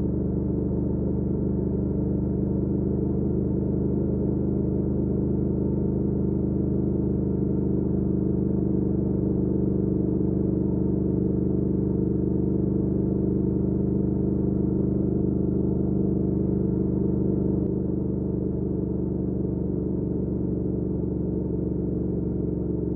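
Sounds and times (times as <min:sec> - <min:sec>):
motorcycle engine running steadily: 0:00.0 - 0:22.9.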